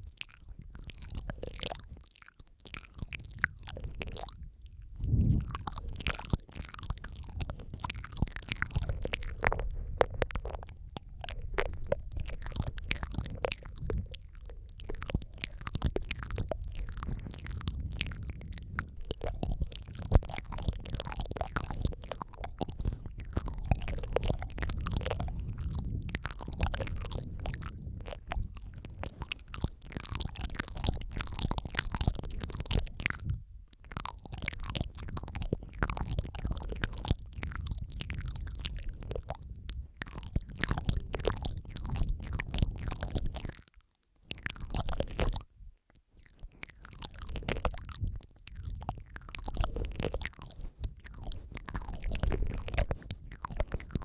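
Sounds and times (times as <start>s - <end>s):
wet mouth clicks and smacks: 0.0s - 54.0s.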